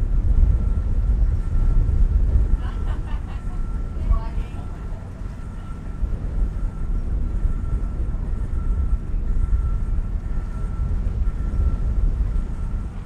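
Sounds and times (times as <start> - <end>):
faint steady whine: 0.0 - 13.0
vehicle rumble: 0.0 - 13.0.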